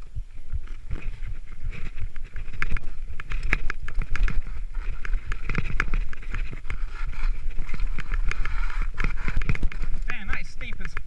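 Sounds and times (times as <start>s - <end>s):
bike rattling: 0.0s - 11.0s
bike tyres rumbling over rock: 0.0s - 11.0s
sharp clicks and knocks: 0.6s - 11.0s.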